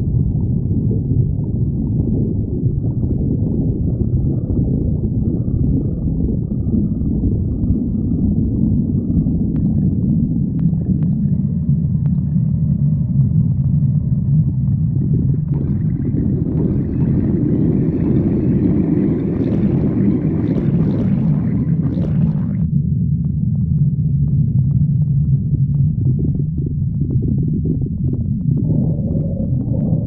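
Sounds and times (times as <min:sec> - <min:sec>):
stomach growling: 0:00.0 - 0:30.0.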